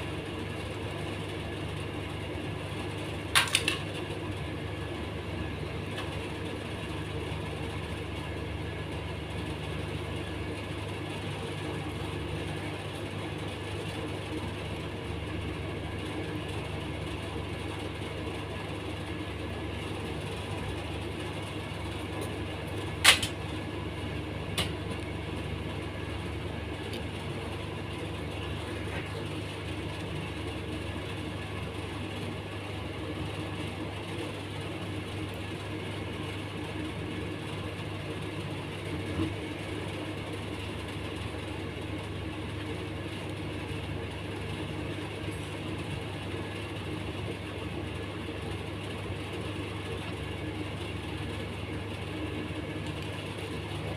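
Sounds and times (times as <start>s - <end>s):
low background hum: 0.0s - 53.9s.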